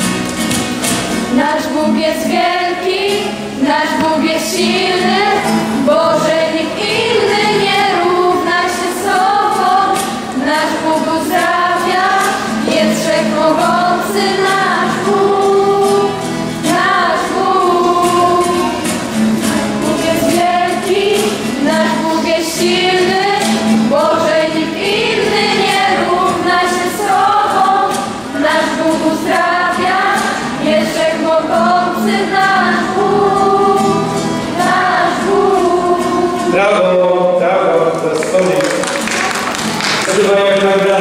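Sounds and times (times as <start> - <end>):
acoustic guitar: 0.0 - 41.0
women singing worship song: 1.2 - 36.6.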